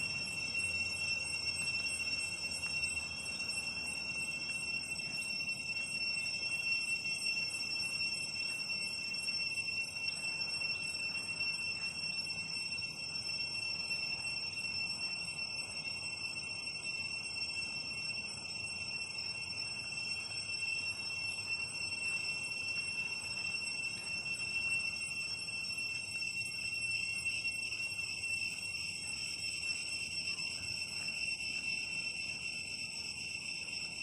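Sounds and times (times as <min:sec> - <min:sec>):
cicadas buzzing: 0:00.0 - 0:34.0.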